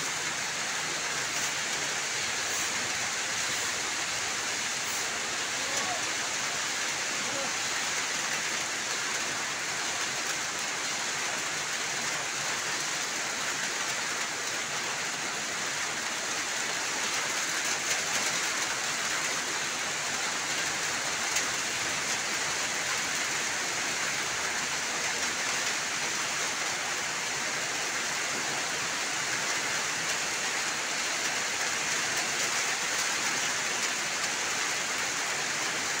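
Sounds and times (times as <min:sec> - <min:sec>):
heavy rain on wet pavement: 0:00.0 - 0:36.0.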